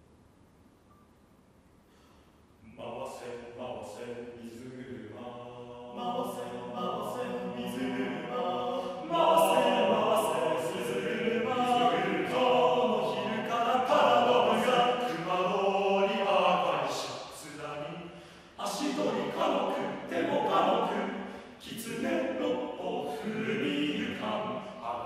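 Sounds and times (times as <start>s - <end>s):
men singing in close harmony: 2.7s - 17.9s, 18.6s - 25.0s.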